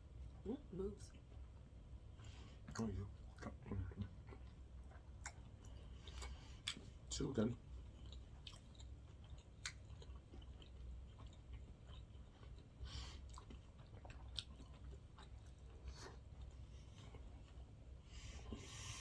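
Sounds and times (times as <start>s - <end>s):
low room hum: 0.0s - 19.0s
chewing with wet mouth clicks: 1.0s - 17.8s.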